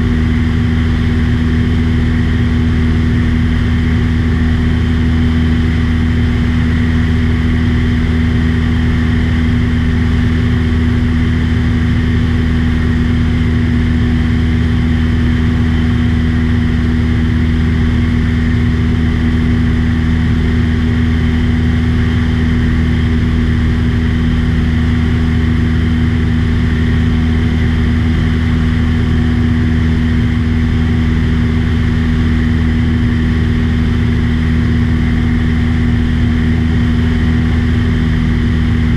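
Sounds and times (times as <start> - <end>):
small aircraft engine droning: 0.0 - 38.9.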